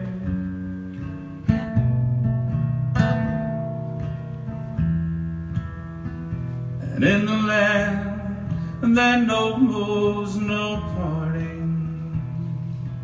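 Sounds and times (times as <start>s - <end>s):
acoustic guitar strumming: 0.0s - 13.0s
person singing country ballad: 0.0s - 13.0s.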